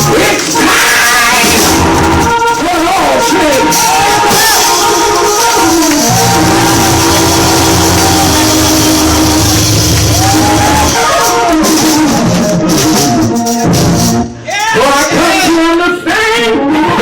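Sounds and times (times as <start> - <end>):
voices calling out or singing: 0.0 - 13.7
organ-like held chords: 0.0 - 14.4
drums and cymbals: 0.0 - 14.6
church band music: 0.0 - 16.9.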